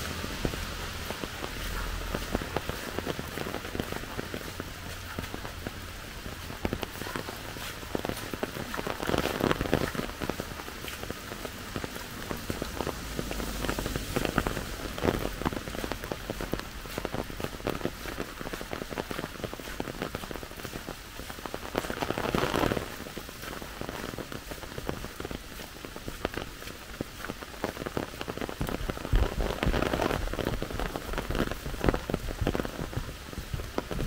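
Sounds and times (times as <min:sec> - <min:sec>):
raindrops striking close by: 0:00.0 - 0:34.0
steady rainfall: 0:00.0 - 0:34.0.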